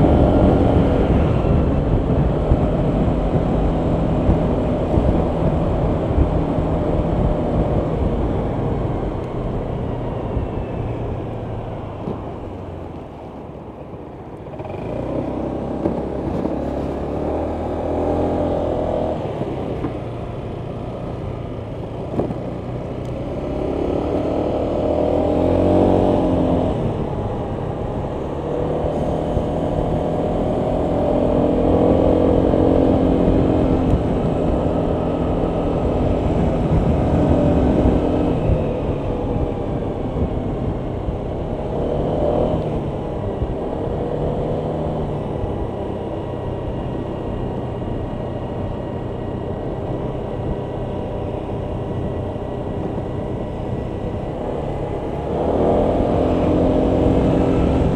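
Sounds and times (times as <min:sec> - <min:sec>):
scooter engine running: 0:00.0 - 0:57.9
wind and road rush: 0:00.0 - 0:57.9.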